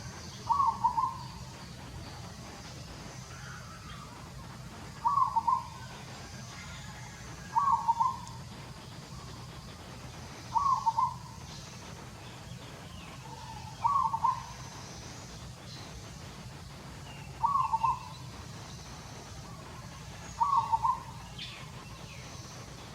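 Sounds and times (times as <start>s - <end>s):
bird calling: 0.0s - 22.9s.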